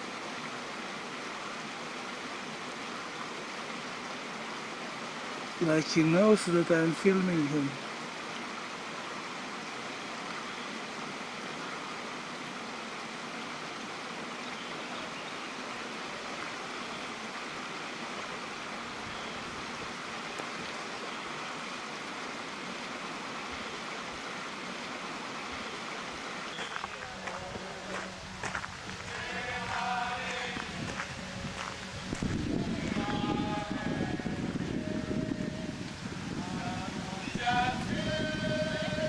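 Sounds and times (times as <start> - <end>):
flowing water of stream: 0.0 - 39.0.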